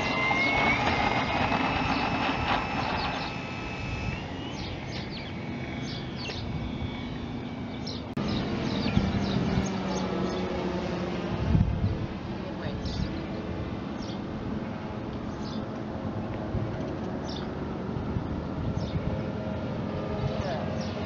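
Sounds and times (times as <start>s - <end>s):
electric motor and propeller whining: 0.0s - 21.0s.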